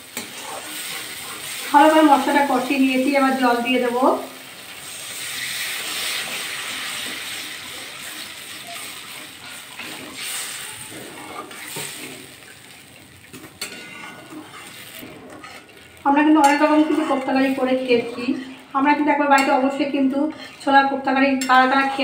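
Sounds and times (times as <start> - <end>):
metal spatula scraping pan: 0.0 - 3.9, 4.8 - 22.0
water hissing in hot pan: 0.0 - 18.9.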